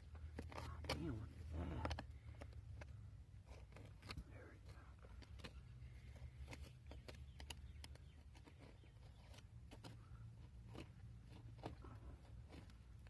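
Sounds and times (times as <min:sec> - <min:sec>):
digging clicks and scrapes: 0:00.0 - 0:13.0.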